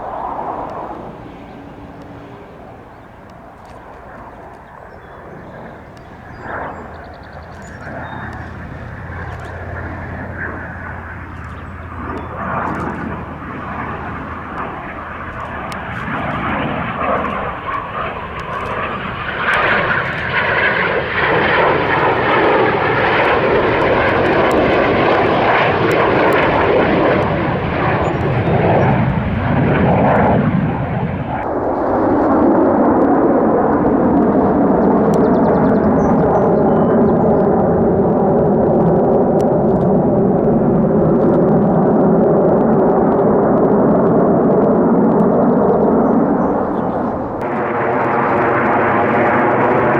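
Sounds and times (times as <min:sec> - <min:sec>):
airplane engine: 0:00.0 - 0:49.9.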